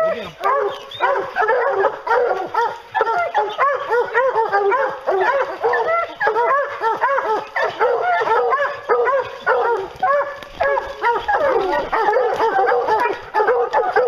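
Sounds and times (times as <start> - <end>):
hounds barking and yipping: 0.0 - 14.0.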